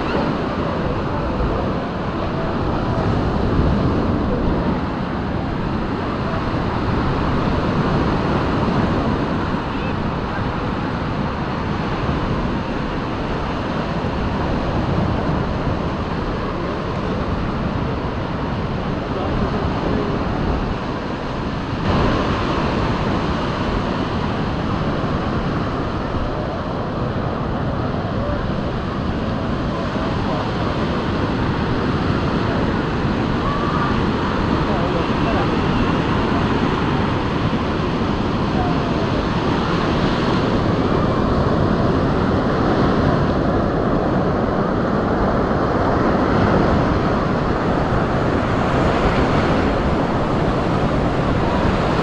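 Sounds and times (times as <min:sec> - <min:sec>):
surf washing on sandy shore: 0:00.0 - 0:52.0
wind buffeting microphone: 0:00.0 - 0:52.0.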